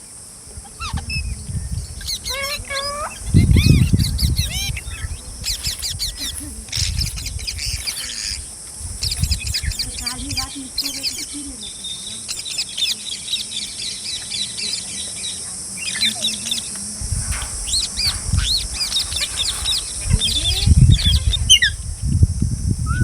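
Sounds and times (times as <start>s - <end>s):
birds chirping: 0.0s - 23.0s
steady high hiss: 0.0s - 23.0s.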